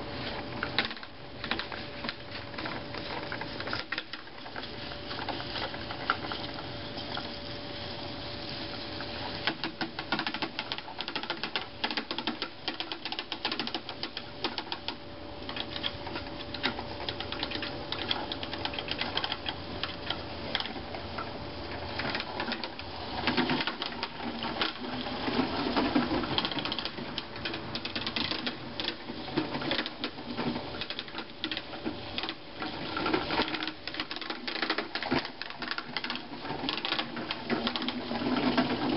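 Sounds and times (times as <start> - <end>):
seed spreader ticking and rattling: 0.6 - 38.9.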